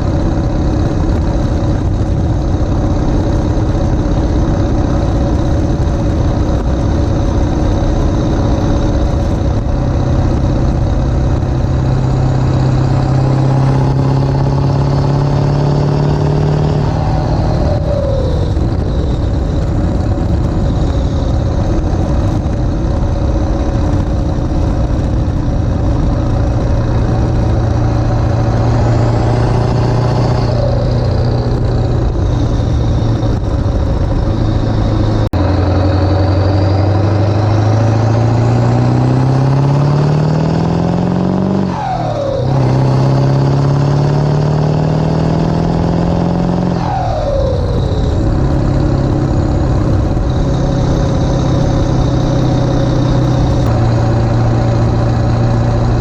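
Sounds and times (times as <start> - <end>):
diesel truck engine accelerating: 0.0 - 56.0.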